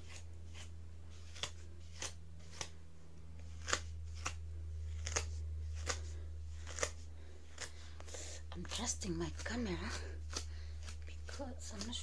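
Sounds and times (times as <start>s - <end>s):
comb strokes through hair: 0.0s - 2.8s, 3.4s - 12.0s
low hum: 0.0s - 11.8s.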